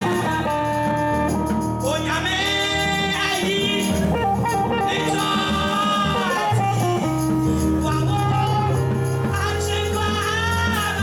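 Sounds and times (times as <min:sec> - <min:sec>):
bass line: 0:00.0 - 0:11.0
keyboard tones: 0:00.0 - 0:11.0
person singing: 0:00.0 - 0:11.0.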